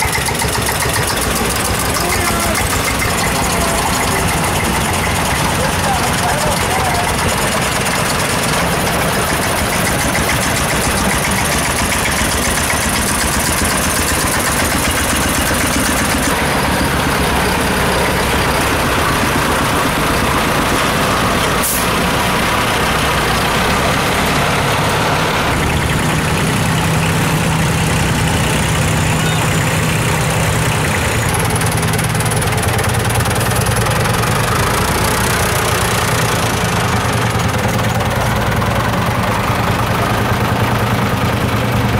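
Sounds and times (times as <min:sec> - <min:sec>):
tractor engines passing: 0:00.0 - 0:41.9.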